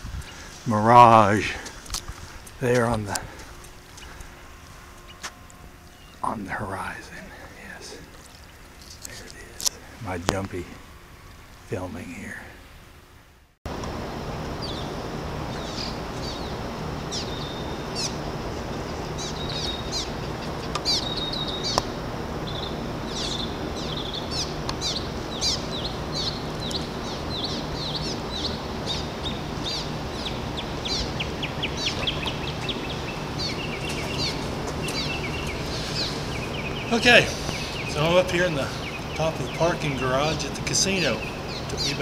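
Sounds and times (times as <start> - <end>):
small birds chirping: 0.0 - 12.8, 13.8 - 42.0
low background rumble: 0.0 - 42.0.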